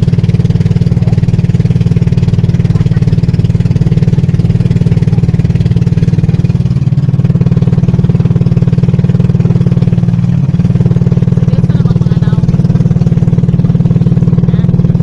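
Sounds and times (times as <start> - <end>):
small boat engine running: 0.0 - 15.0.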